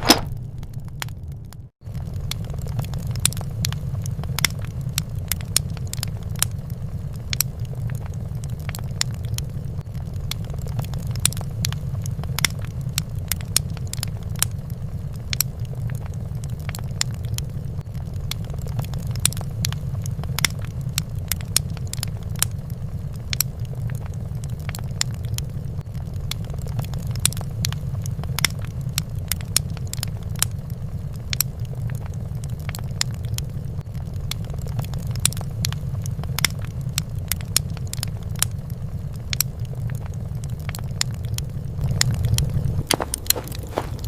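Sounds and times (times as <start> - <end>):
fire crackling: 0.0 - 44.0.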